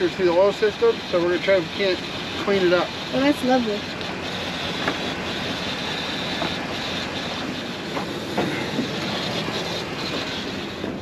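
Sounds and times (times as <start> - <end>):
car engine running: 0.0 - 11.0
sharp engine ticks: 0.0 - 11.0.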